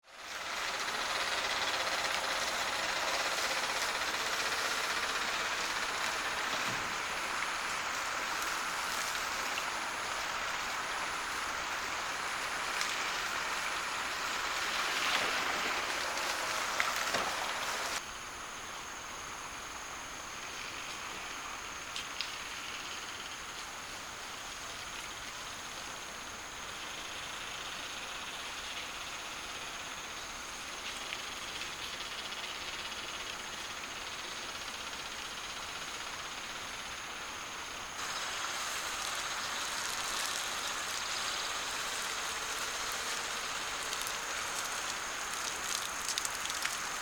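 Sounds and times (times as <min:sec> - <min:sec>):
rushing outdoor noise: 0:00.1 - 0:47.0
pulsing high insect call: 0:00.2 - 0:47.0
steady high insect whine: 0:00.2 - 0:47.0.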